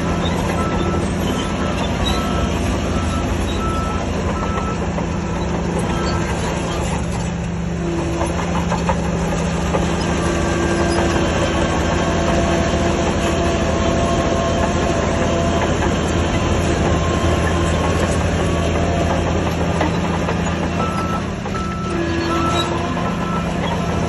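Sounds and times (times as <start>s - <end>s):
diesel earthmoving machinery running: 0.0s - 24.0s.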